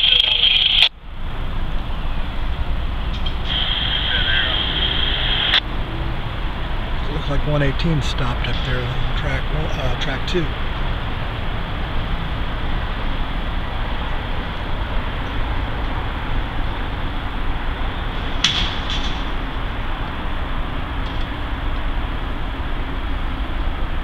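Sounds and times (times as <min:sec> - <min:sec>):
diesel freight locomotives running: 0:00.0 - 0:24.0.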